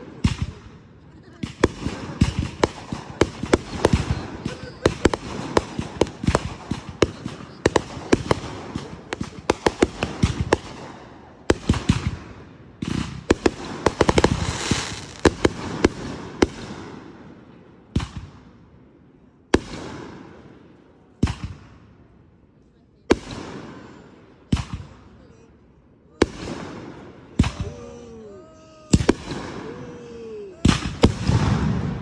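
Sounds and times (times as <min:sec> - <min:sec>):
fireworks bangs and crackling: 0:00.0 - 0:18.9, 0:19.5 - 0:22.1, 0:23.0 - 0:25.2, 0:26.2 - 0:28.1, 0:28.9 - 0:32.0.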